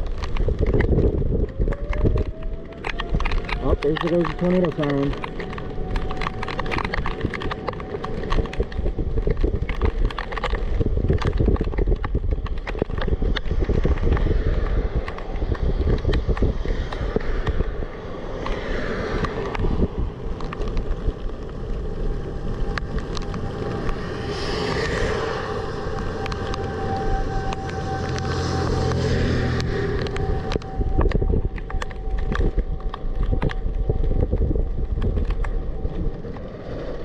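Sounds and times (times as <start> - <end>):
faint warning siren: 0.0 - 11.8, 12.4 - 37.0
wind gusting on microphone: 0.0 - 37.0.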